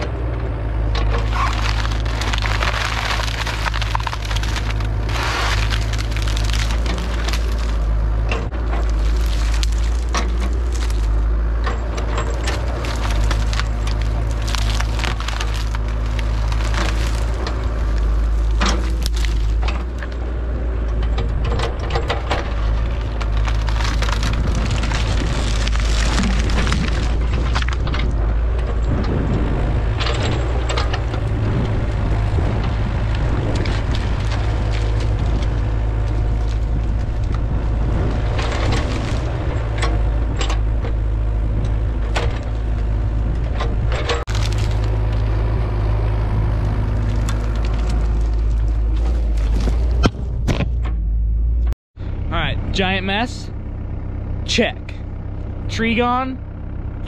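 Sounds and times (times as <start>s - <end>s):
excavator engine running: 0.0s - 57.0s
wood cracking and snapping: 0.9s - 20.3s, 20.9s - 50.8s.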